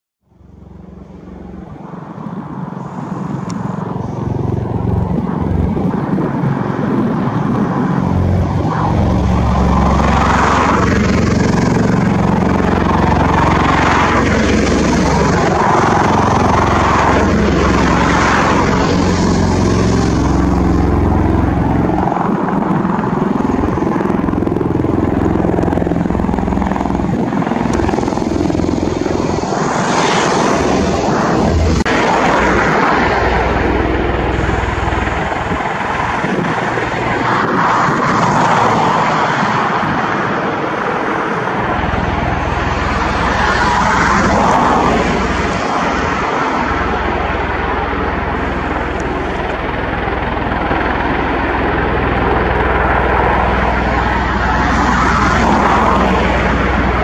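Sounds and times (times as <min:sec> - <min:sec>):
aircraft engines droning: 0:00.2 - 0:57.0.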